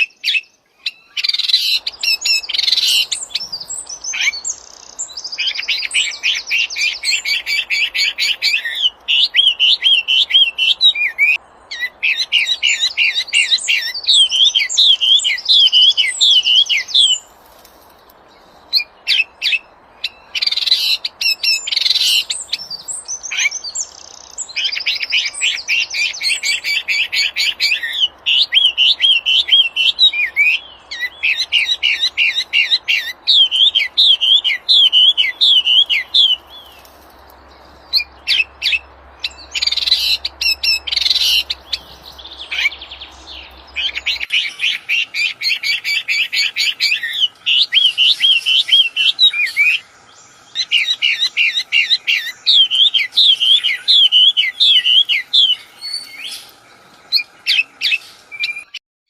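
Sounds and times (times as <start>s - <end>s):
songbird singing trills and whistles: 0.0s - 17.3s, 18.4s - 36.9s, 37.6s - 58.8s.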